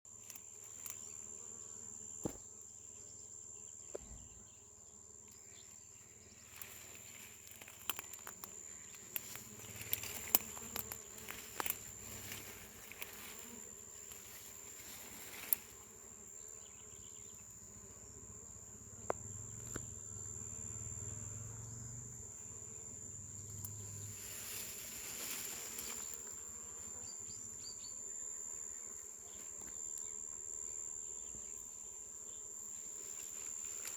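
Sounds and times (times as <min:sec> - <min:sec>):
high-pitched insect whine: 0:00.1 - 0:33.9
bees buzzing: 0:05.2 - 0:33.9.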